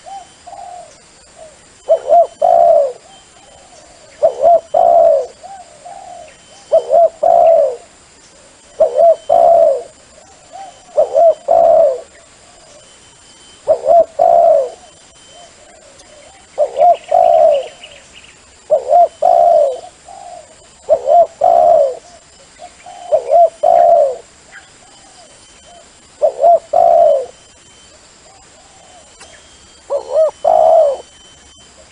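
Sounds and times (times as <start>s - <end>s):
dove cooing: 0.0s - 12.9s, 13.6s - 18.0s, 18.6s - 27.4s, 28.2s - 31.9s.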